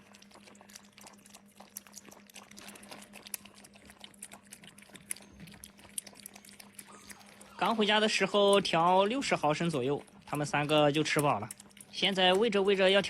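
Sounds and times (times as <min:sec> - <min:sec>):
faint steady hum: 0:00.0 - 0:13.0
puppies lapping milk: 0:00.0 - 0:13.0.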